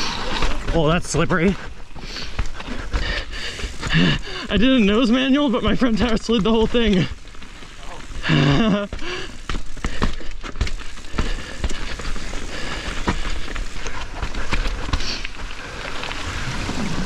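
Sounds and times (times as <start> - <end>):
mountain bike rattling over rough trail: 0.0 - 17.0
tyres clicking and knocking on bumps: 0.2 - 16.3.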